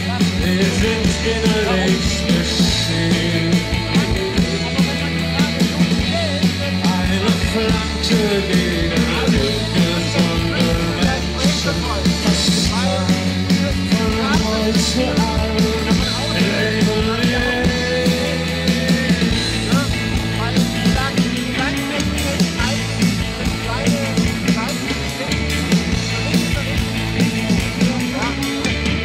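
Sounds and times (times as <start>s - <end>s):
rock band playing with singing: 0.0s - 29.0s.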